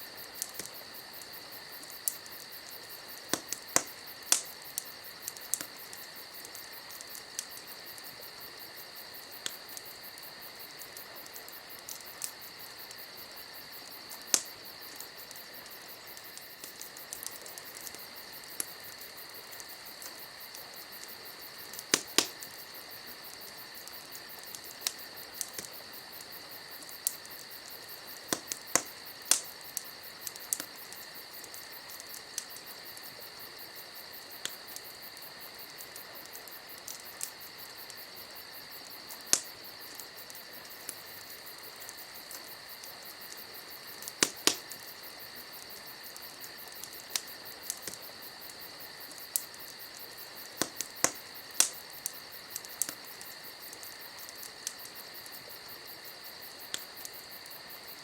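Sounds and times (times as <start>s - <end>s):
campfire crackling: 0.0s - 58.0s
crickets chirping: 0.0s - 58.0s
sharp pops of fire: 0.1s - 58.0s.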